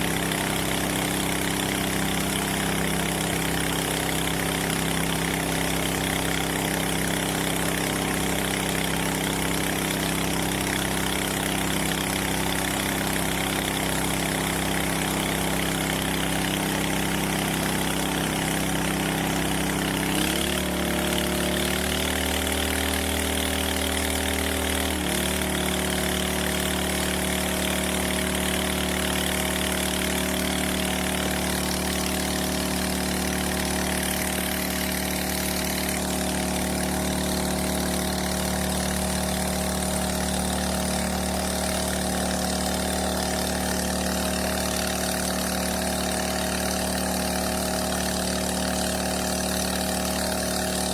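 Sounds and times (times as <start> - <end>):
water hissing from nozzle: 0.0 - 50.9
water pump engine running: 0.0 - 50.9.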